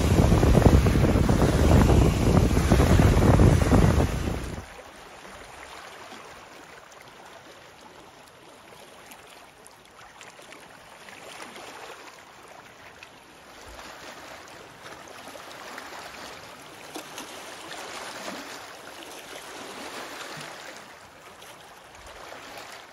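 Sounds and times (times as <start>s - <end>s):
waves lapping over pebbles: 0.0s - 22.9s.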